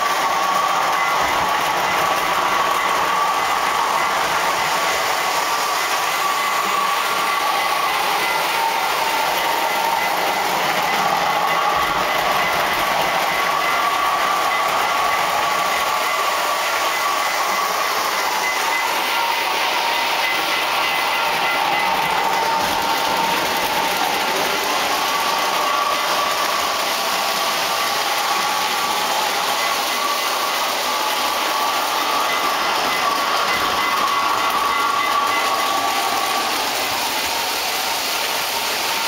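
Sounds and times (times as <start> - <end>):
model train wheels whirring: 0.0 - 39.0
thin wavering whine: 0.0 - 39.0.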